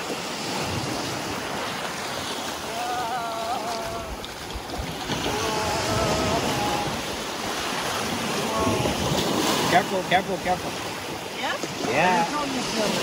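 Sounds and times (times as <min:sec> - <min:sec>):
small waves washing on shore: 0:00.0 - 0:13.0.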